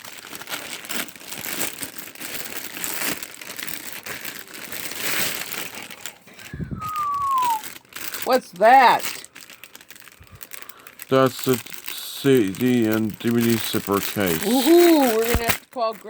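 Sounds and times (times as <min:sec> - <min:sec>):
package wrapping crinkling: 0:00.0 - 0:16.0.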